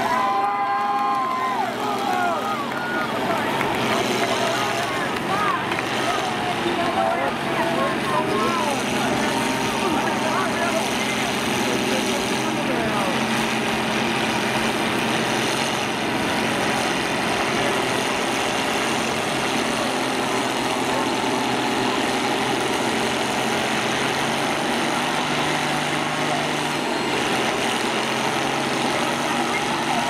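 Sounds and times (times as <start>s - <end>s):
combine harvester engines idling: 0.0s - 30.0s.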